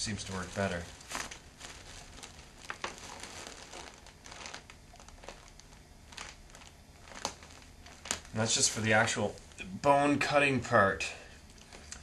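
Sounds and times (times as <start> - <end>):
muffled crunching and crackling: 0.0 - 12.0.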